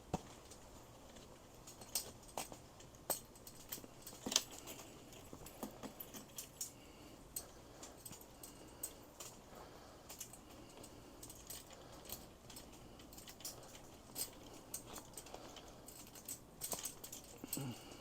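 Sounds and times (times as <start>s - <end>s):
metal chain clinking: 0.4s - 18.0s.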